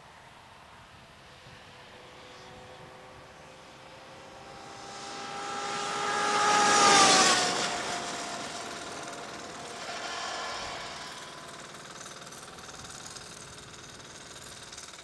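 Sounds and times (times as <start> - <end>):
electric motorcycle passing: 0.1 - 14.4.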